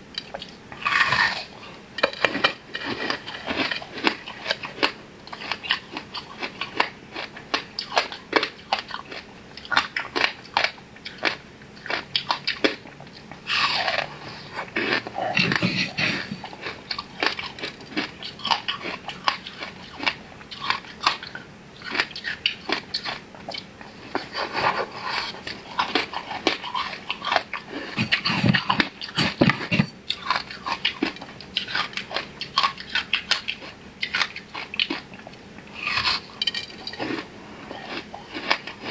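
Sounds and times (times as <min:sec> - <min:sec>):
chewing soft cake: 0:00.1 - 0:38.9.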